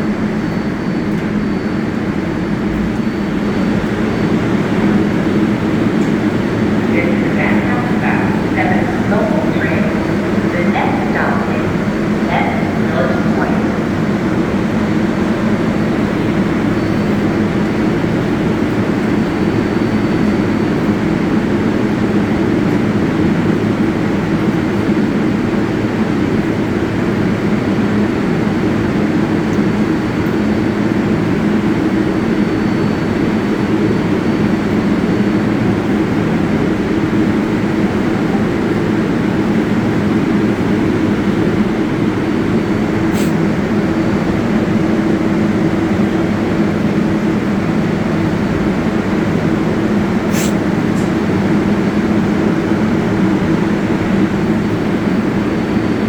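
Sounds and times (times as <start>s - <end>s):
subway train rumble and hum: 0.0s - 56.0s.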